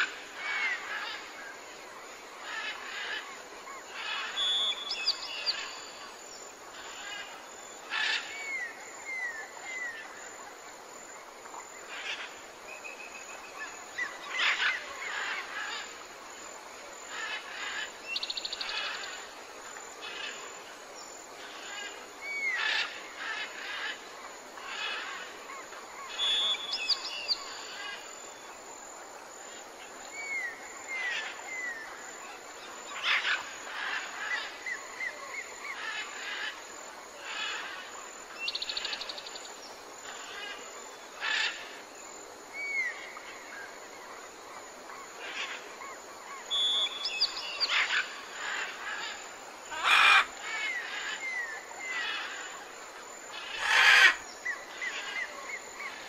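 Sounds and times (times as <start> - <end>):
steady background hiss: 0.0 - 56.0
forest birds calling: 2.4 - 10.5, 11.5 - 16.0, 17.0 - 28.6, 29.5 - 56.0.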